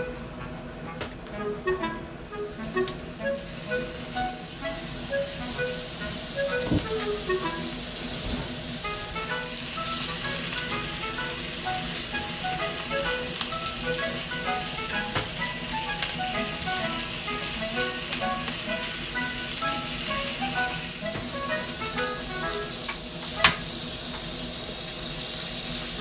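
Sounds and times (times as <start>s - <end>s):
light background music: 0.0s - 26.0s
food sizzling in frying pan: 2.2s - 26.0s.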